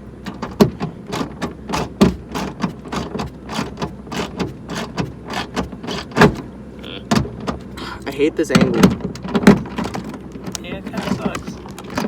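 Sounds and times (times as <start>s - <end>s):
clicks and knocks on car door: 0.2s - 7.8s, 8.5s - 12.0s.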